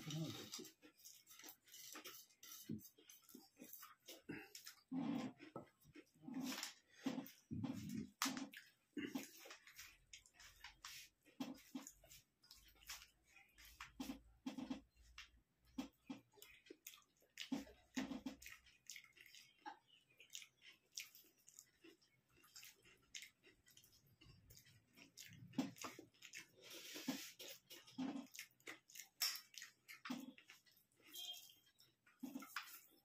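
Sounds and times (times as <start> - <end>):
people chewing food: 0.0 - 33.0.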